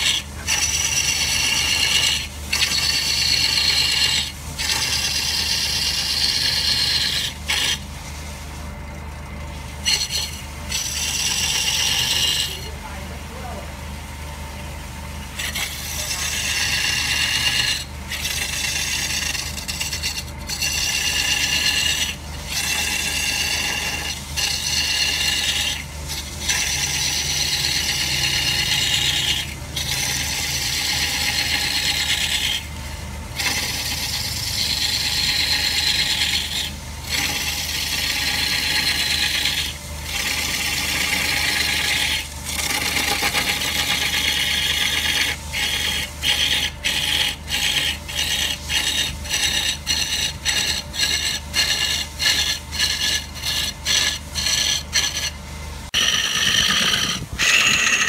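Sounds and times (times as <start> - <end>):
lathe tool rasping wood: 0.0 - 7.9, 9.8 - 13.6, 15.4 - 58.0.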